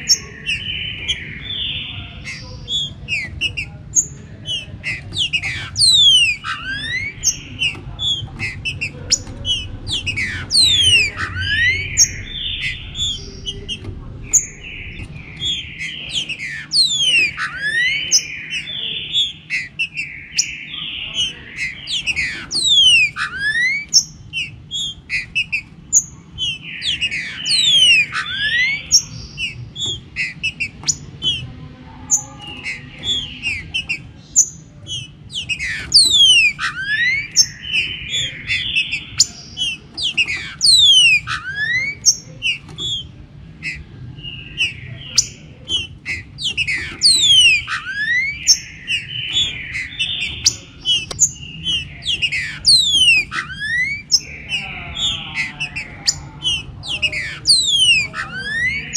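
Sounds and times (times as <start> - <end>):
birds singing whistles: 0.0 - 58.9.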